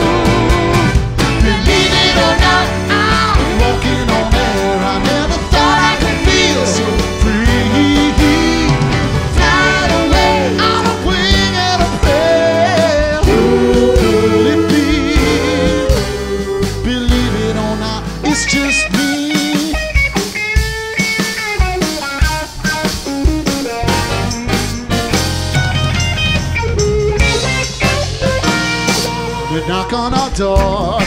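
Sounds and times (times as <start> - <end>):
guitar and drum chord hits: 0.0 - 31.0
live rock band playing: 0.0 - 31.0.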